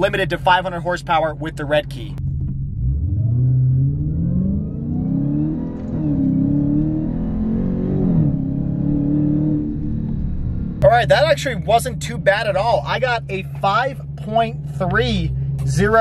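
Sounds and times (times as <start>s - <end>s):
car engine accelerating hard: 2.2s - 16.0s.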